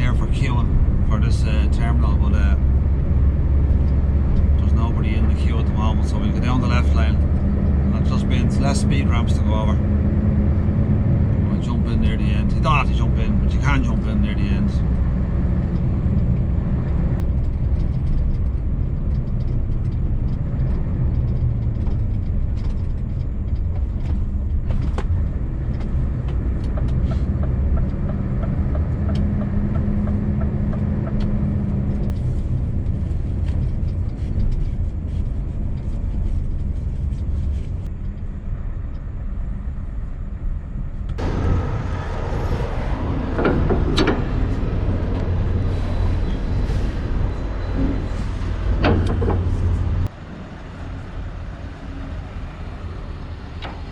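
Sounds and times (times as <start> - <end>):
truck engine running at low revs: 0.0 - 53.9.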